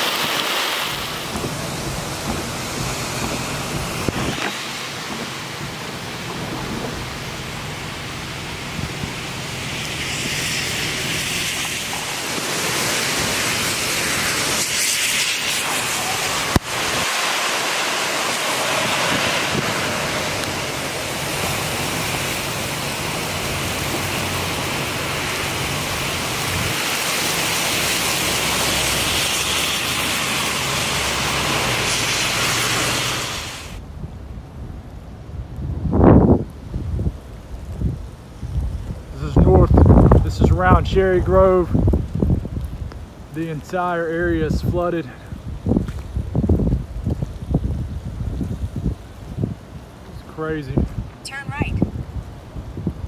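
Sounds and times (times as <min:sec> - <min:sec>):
gusting wind: 0:00.0 - 0:53.0
heavy rain: 0:00.0 - 0:53.0
wind rumbling on microphone: 0:00.0 - 0:53.0.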